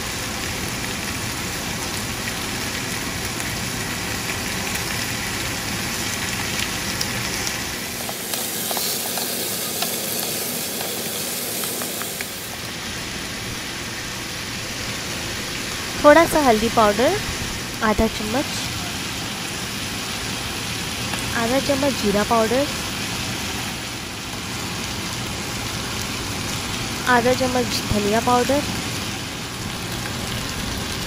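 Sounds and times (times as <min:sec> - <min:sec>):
vegetables sizzling in oil: 0:00.0 - 0:31.0.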